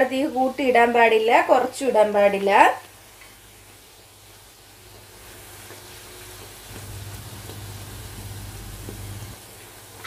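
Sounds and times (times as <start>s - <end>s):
deep-frying sizzle: 0.0s - 10.0s.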